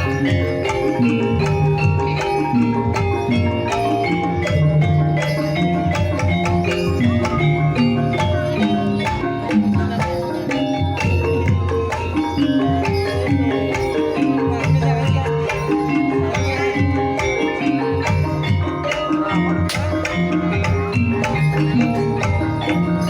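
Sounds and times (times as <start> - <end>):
hand drums beating: 0.0 - 23.0
struck tuned bars melody: 0.0 - 23.0.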